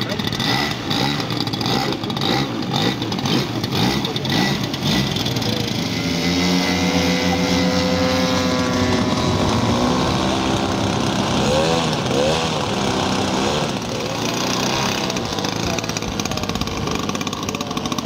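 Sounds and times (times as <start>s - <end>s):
model airplane engines running: 0.0s - 18.0s.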